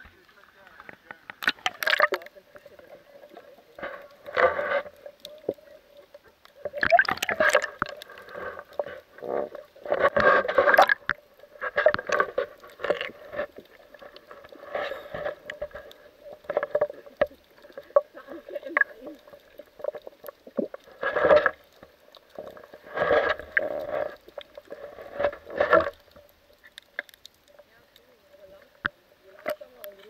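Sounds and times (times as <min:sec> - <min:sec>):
muffled underwater swishing and gurgling: 0:00.0 - 0:26.3.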